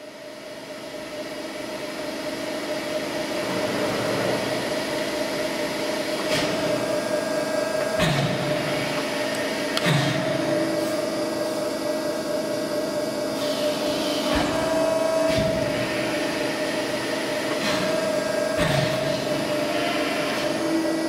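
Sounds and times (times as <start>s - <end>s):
hydraulic machine humming: 0.1s - 21.0s.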